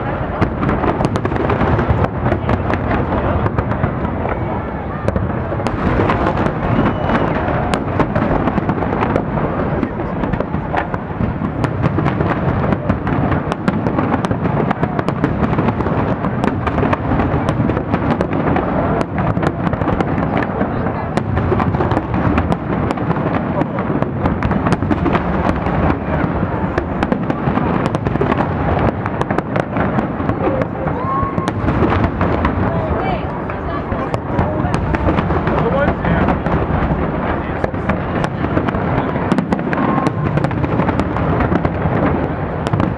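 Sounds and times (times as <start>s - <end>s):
crowd voices: 0.0s - 42.9s
fireworks bursting and crackling: 0.0s - 42.9s.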